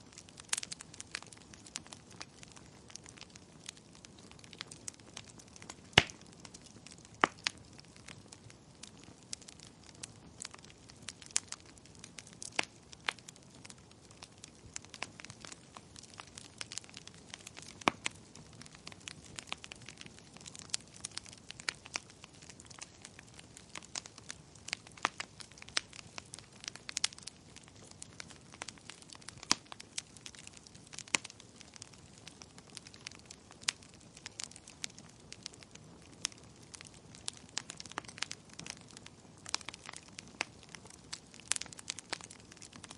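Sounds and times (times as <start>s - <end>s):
fire popping and snapping: 0.0s - 42.9s
soft hiss of flames: 0.0s - 42.9s
wood fire crackling: 0.0s - 42.9s.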